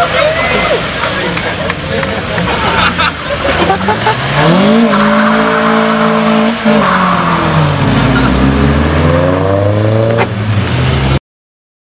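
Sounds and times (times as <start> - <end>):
car engines revving: 0.0 - 11.2.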